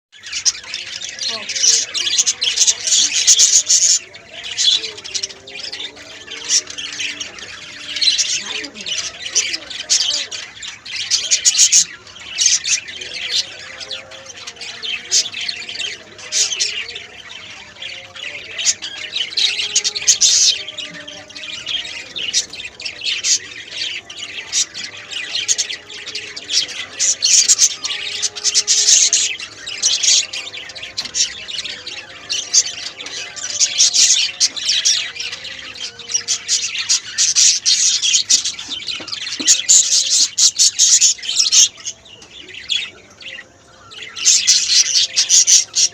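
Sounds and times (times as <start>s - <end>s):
birds chattering and squawking: 0.1s - 45.9s.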